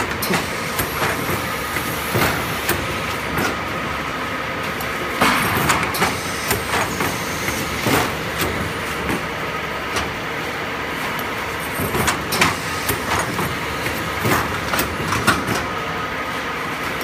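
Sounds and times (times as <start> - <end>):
pneumatic machine clacks: 0.0 - 3.8, 4.7 - 10.2, 11.2 - 15.8
machine mechanical hum: 0.0 - 17.0.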